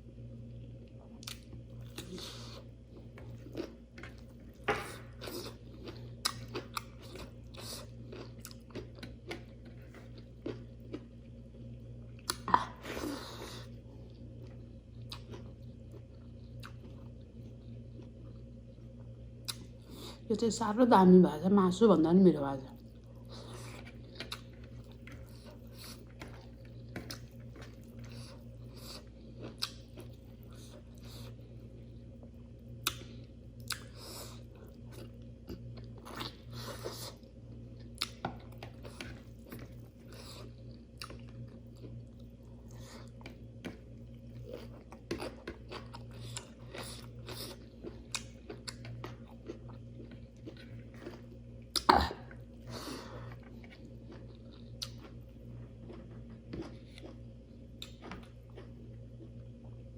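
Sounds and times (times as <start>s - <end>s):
chewing and crunching food: 0.5s - 59.9s.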